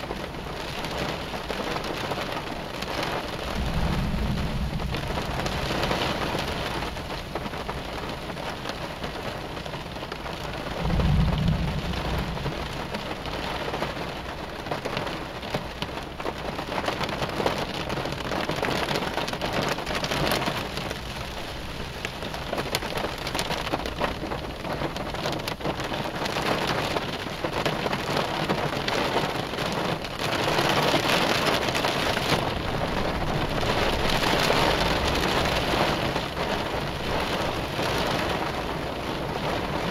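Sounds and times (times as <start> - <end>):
thunder rumble: 0.0 - 26.6, 30.4 - 39.9
heavy rain on a car: 0.0 - 39.9.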